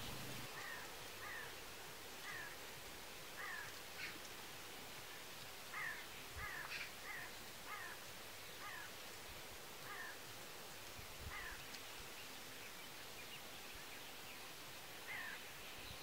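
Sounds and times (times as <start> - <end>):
faint steady outdoor hiss: 0.0 - 16.0.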